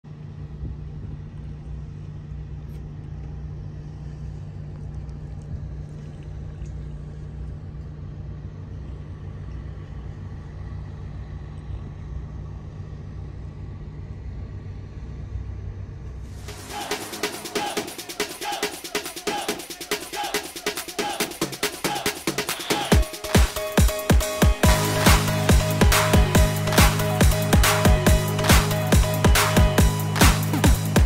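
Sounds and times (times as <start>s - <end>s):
ship machinery rumbling: 0.1s - 31.0s.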